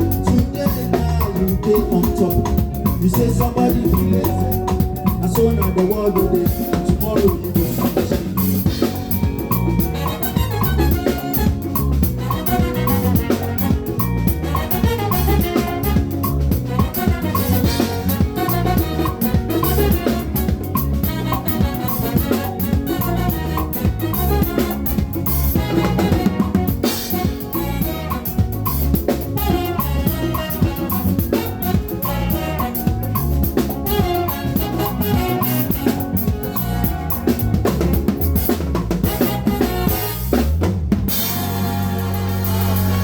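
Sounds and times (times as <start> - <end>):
band music with drum kit: 0.0 - 43.0
moving bass line: 0.0 - 43.0.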